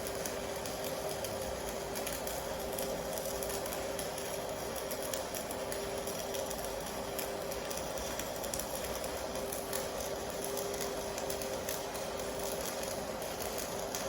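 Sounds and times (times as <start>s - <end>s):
welding arc buzzing: 0.0s - 14.0s.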